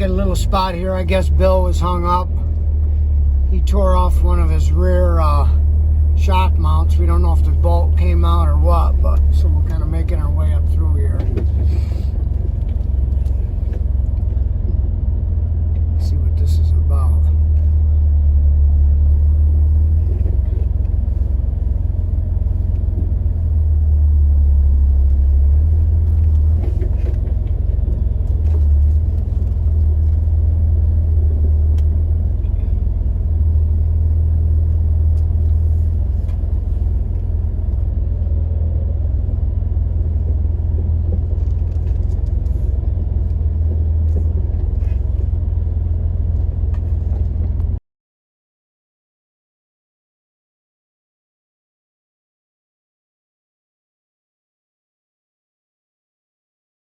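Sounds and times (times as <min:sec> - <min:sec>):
engine low rumble: 0:00.0 - 0:47.8.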